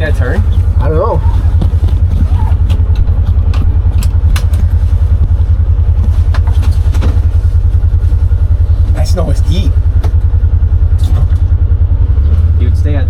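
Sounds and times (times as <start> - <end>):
vehicle engine low throb: 0.0 - 13.0.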